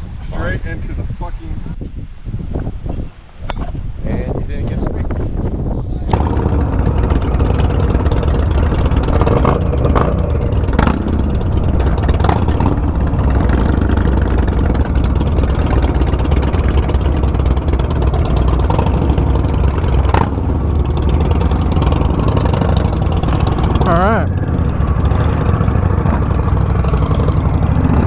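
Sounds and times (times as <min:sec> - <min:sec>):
motorcycle engine running steadily: 0:04.8 - 0:28.0.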